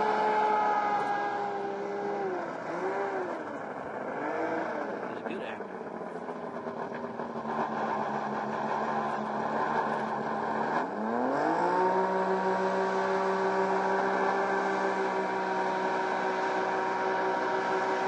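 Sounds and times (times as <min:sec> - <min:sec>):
hovercraft engine revving up: 0:00.0 - 0:18.0.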